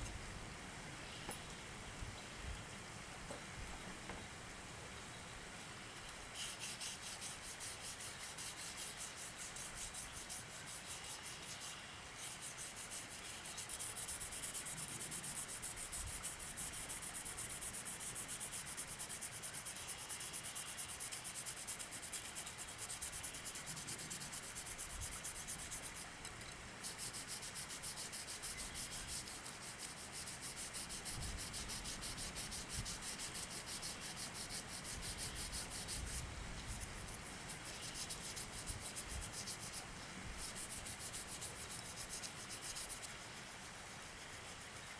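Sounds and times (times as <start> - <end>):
sandpaper scrubbing rusty metal: 6.3 - 26.1, 26.8 - 44.9.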